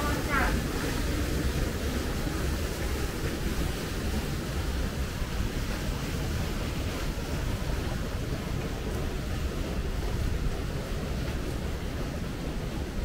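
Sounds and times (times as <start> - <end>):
river water: 0.0 - 13.0
wind rumble on microphone: 0.0 - 13.0.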